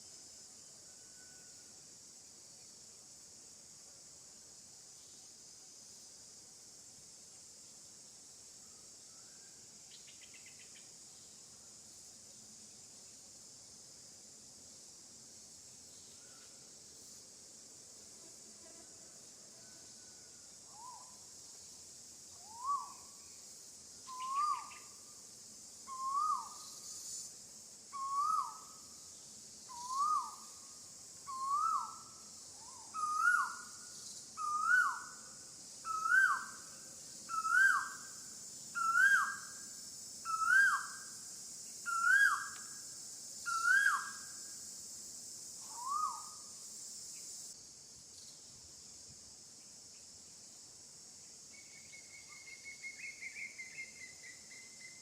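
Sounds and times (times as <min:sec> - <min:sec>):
high insect hiss: 0:00.0 - 0:55.0.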